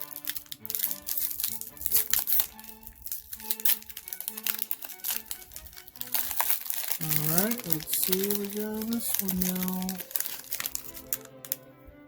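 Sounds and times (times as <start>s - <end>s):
foil wrapper crinkling: 0.0s - 11.6s
background music: 0.0s - 12.0s.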